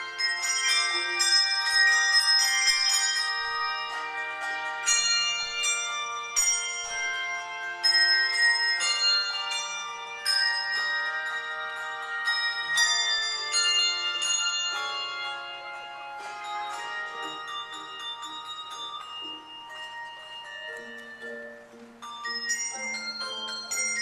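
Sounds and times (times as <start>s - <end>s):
handbell choir ringing: 0.0s - 24.0s.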